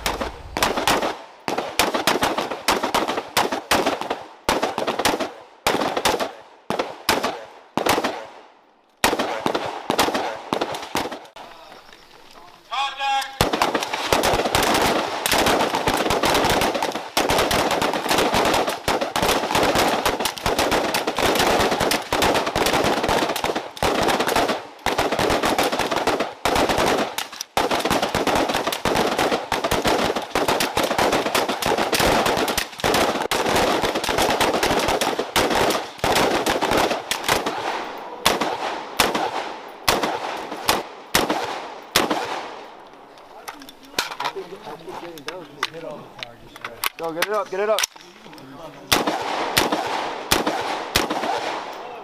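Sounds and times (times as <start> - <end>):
small-arms gunfire: 0.0 - 8.4, 9.0 - 11.4, 13.0 - 42.9, 48.8 - 52.0.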